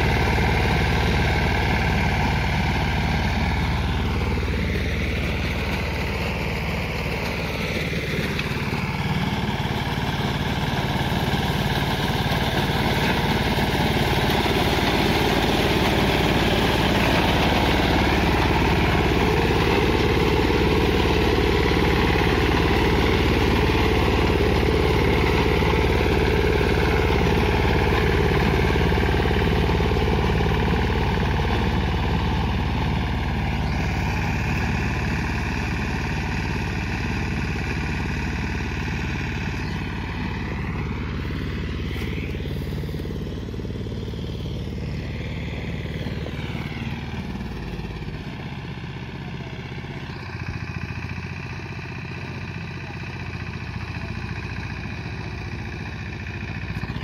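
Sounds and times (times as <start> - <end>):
reaper engine running under load: 0.0 - 57.0.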